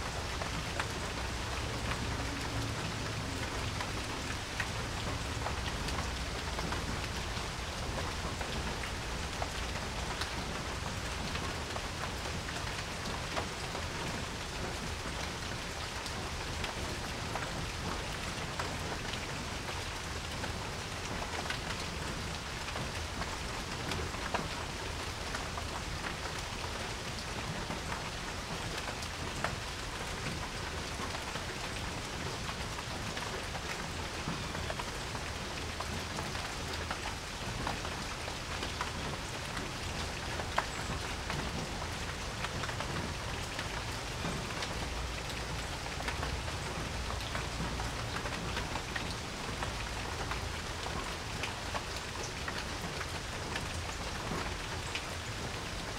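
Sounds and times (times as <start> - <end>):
rain pattering on a porch: 0.0 - 55.9.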